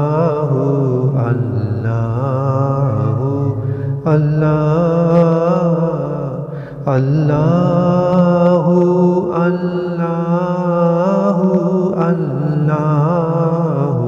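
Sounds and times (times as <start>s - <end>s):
person chanting long held notes: 0.0s - 14.0s
steady low drone: 0.0s - 14.0s.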